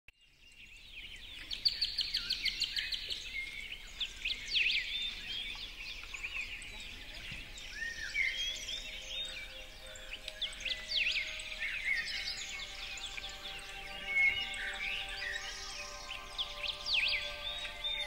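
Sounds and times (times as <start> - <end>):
budgerigars chattering: 1.4 - 18.0.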